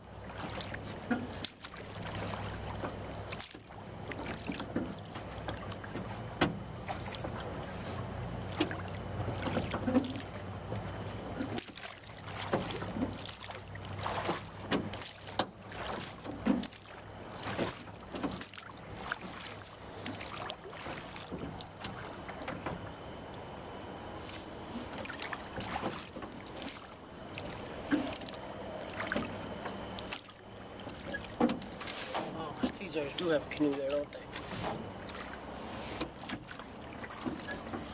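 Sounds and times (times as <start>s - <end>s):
boat moving through water: 0.0s - 37.9s
splashes and knocks: 0.2s - 23.2s, 24.2s - 37.9s.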